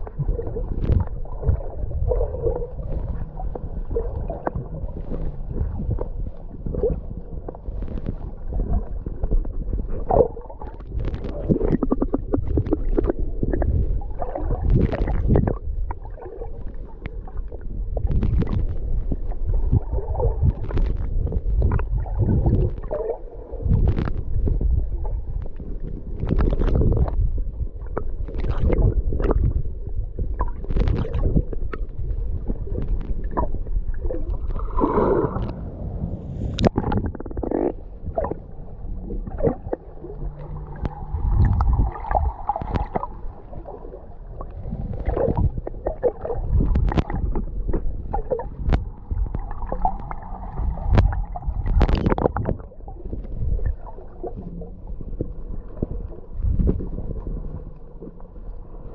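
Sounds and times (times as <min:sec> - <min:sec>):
muffled low rumble: 0:00.0 - 0:58.9
water splashing while swimming: 0:00.0 - 0:58.9.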